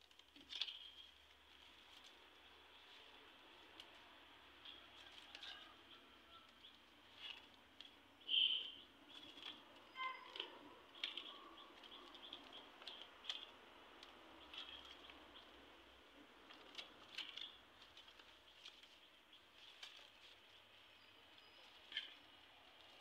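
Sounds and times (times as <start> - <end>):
dry palm leaves rustling: 0.0 - 23.0.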